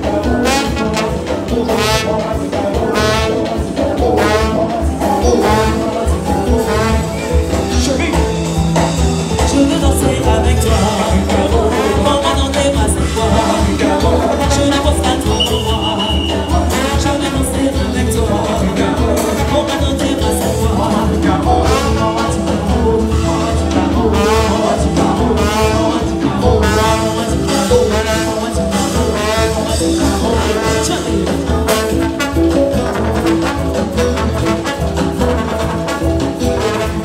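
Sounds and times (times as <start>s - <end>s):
live dance band music: 0.0s - 37.0s.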